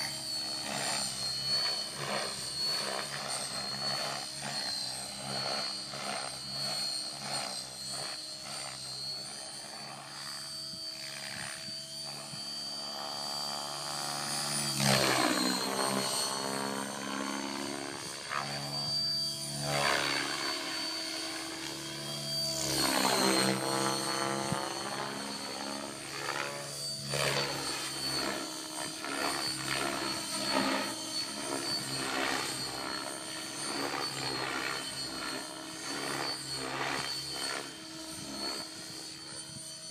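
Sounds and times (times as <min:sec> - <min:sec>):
model helicopter whining: 0:00.0 - 0:39.9.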